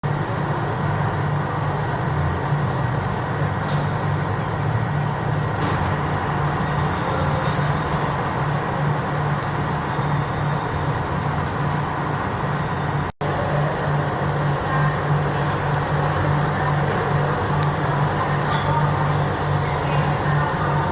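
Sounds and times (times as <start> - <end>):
road noise hiss: 0.0 - 20.9
vehicle engine hum: 0.0 - 20.9.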